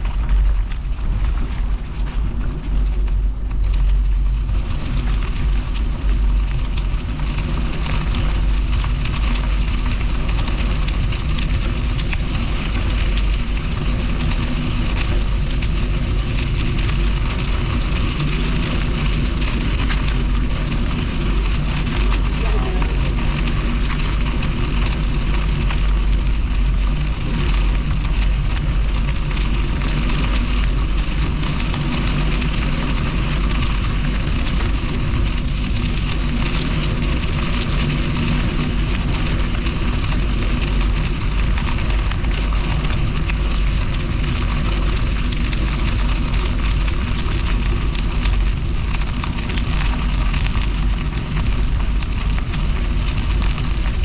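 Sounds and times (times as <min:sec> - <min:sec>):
bicycle tyres rolling on path: 0:00.0 - 0:54.0
wind buffeting microphone: 0:00.0 - 0:54.0.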